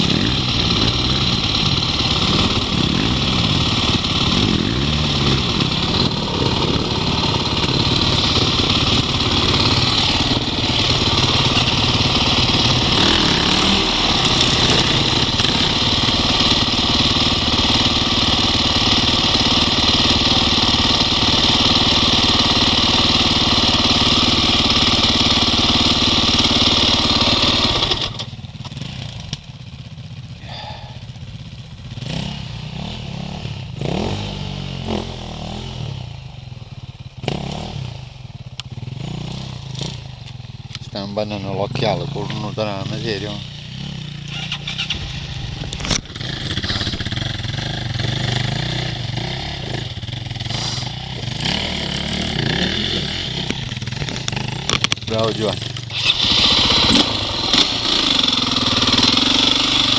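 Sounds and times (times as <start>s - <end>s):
dirt bike engine revving: 0.0s - 29.4s, 30.4s - 31.1s, 31.8s - 59.9s
motorcycle engine idling: 0.0s - 59.9s.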